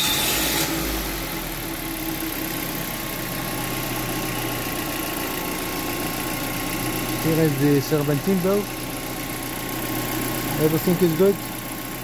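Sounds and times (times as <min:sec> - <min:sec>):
car engine idling: 0:01.0 - 0:12.0.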